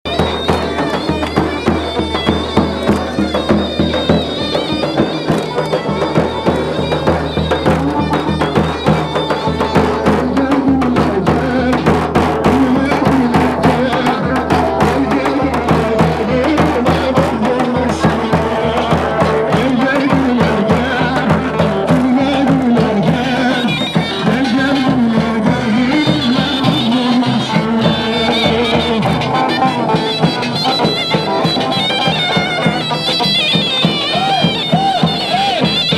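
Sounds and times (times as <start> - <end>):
fast drum beat: 0.1 - 35.9
reedy wind instrument melody: 0.1 - 35.9.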